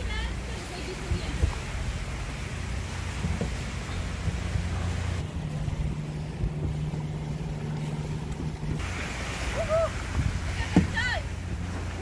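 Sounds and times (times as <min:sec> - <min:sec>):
sailboat low rumble: 0:00.0 - 0:12.0
water on deck: 0:00.0 - 0:12.0
wind: 0:00.0 - 0:12.0.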